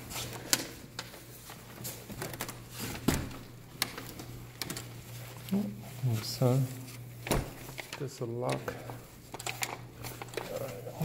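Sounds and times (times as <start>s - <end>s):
curtains rustling: 0.0s - 11.0s.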